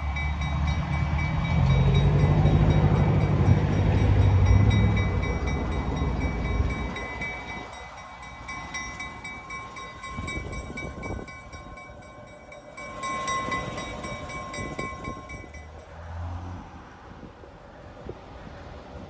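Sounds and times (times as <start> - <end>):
locomotive bell ringing: 0.0 - 16.2
diesel locomotive engine rumbling: 0.0 - 19.0
train wheels on rails: 0.0 - 19.0.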